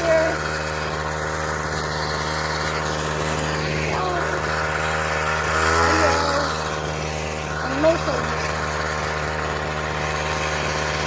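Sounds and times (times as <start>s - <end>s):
small gasoline engine running: 0.0s - 11.0s.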